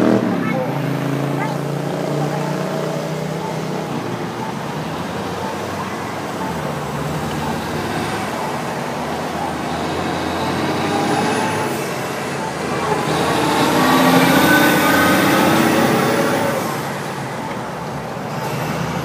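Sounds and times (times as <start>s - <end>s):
tyres on street: 0.0s - 19.0s
vehicle engines: 0.0s - 19.0s.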